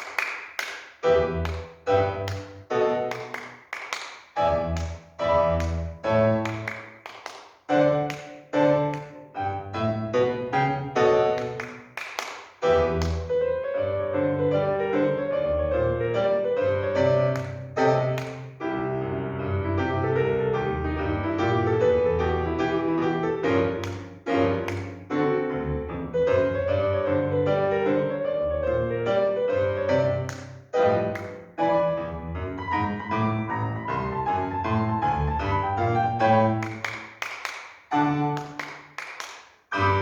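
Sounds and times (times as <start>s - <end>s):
solo piano playing lively piece: 1.0s - 3.5s, 4.4s - 7.0s, 7.7s - 12.0s, 12.6s - 37.1s, 37.9s - 38.7s, 39.7s - 40.0s.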